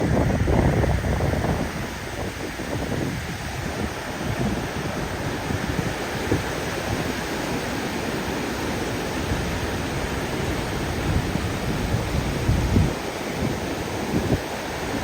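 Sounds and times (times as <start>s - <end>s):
open sea rushing: 0.0s - 15.0s
wind buffeting microphone: 0.0s - 15.0s.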